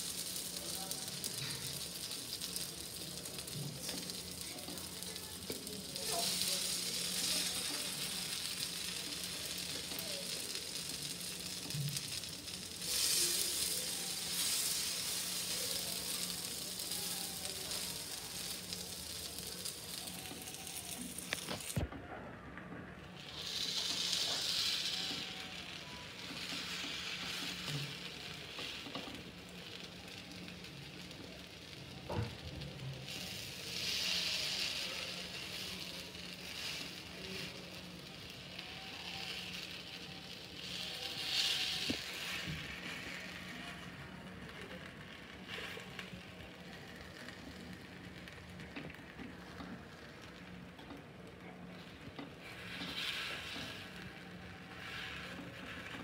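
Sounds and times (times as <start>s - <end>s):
oil sizzling in a pan: 0.0s - 21.9s, 23.0s - 56.0s.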